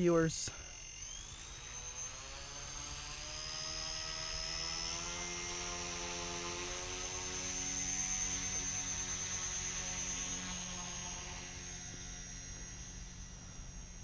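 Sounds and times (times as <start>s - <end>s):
toy helicopter motor whining: 0.0s - 14.0s.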